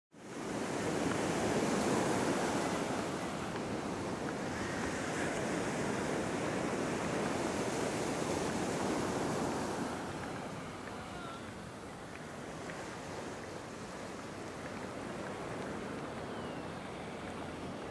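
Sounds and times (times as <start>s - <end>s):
ocean waves breaking on beach: 0.2s - 17.9s.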